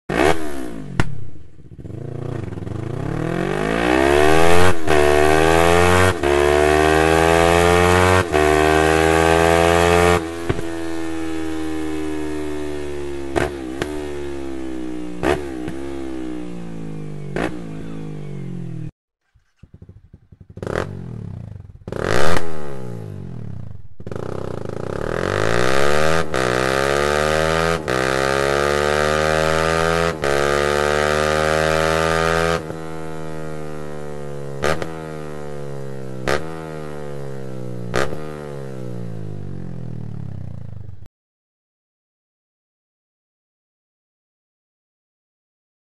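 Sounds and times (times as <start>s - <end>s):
motorcycle accelerating and shifting: 0.1s - 41.1s
motorcycle revving: 0.1s - 41.1s.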